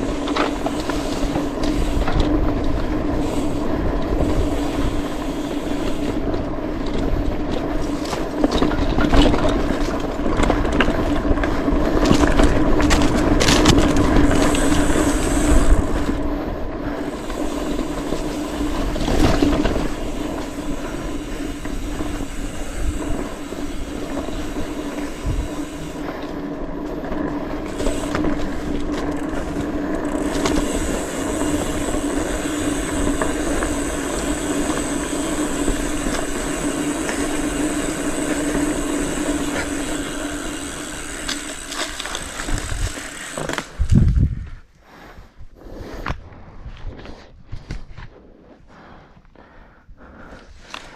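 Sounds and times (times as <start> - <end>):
bicycle freehub buzz: 0.0 - 44.4
bike rattling over rough trail: 0.0 - 44.6.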